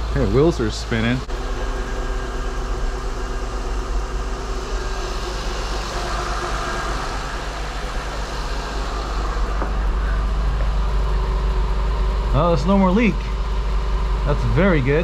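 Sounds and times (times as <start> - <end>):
car engine running with deep hum: 0.0 - 15.0.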